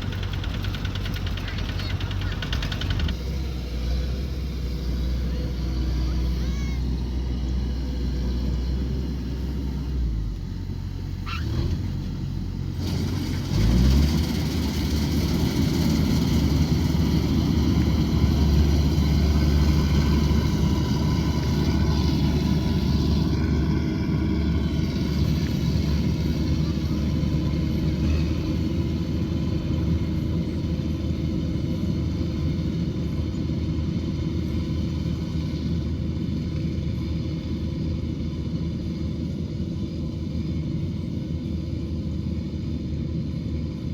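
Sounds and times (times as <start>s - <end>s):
harvester engine running: 0.0s - 43.9s.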